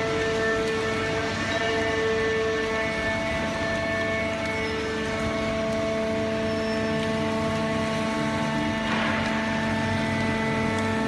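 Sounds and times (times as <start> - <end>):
baler machine humming and whining: 0.0 - 11.0.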